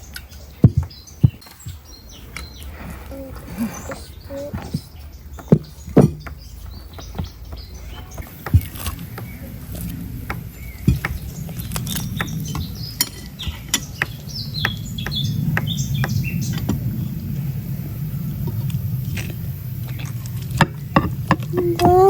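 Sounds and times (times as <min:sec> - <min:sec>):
small birds chirping: 0:00.0 - 0:22.0
low background rumble: 0:00.1 - 0:22.0.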